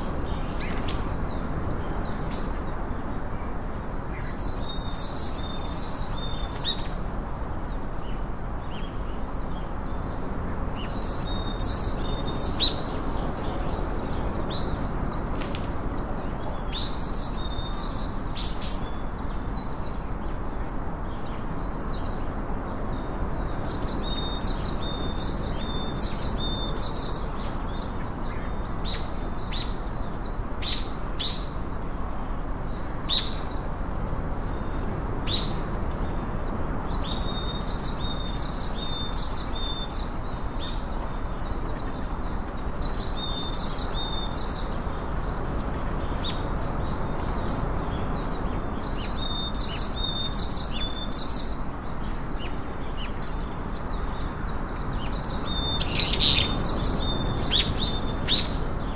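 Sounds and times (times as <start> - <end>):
low rushing background noise: 0.0 - 58.9
small birds chirping: 0.0 - 58.9.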